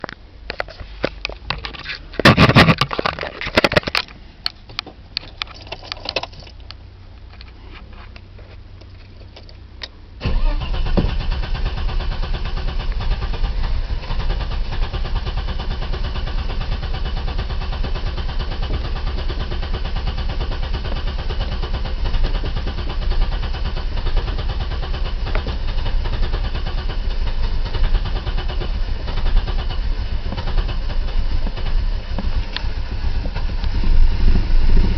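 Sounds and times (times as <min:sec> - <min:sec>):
car engine rough idle: 0:00.0 - 0:34.9.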